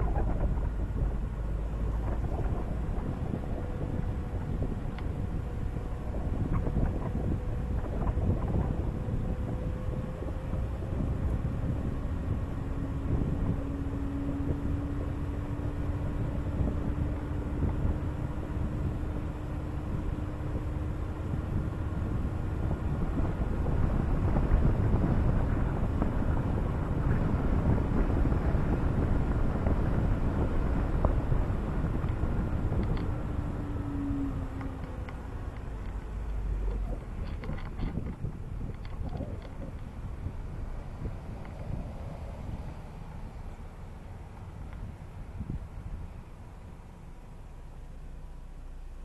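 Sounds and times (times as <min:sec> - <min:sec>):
wind rush: 0:00.0 - 0:46.9
low hum: 0:00.0 - 0:49.0
tyre and road noise: 0:00.0 - 0:49.0.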